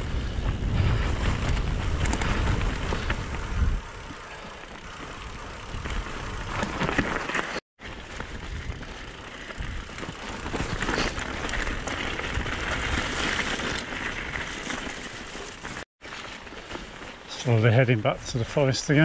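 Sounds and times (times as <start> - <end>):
bike rattles and knocks: 0.0 - 17.3
bike tyres on gravel: 0.0 - 19.0.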